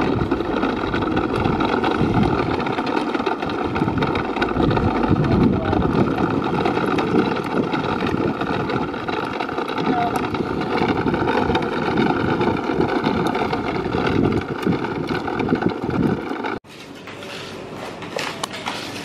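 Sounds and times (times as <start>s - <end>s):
plastic wheels rolling on asphalt: 0.0s - 19.0s.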